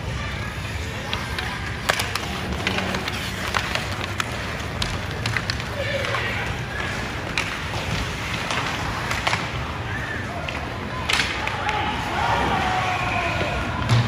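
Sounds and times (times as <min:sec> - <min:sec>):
hockey sticks and puck clacking: 0:00.0 - 0:14.0.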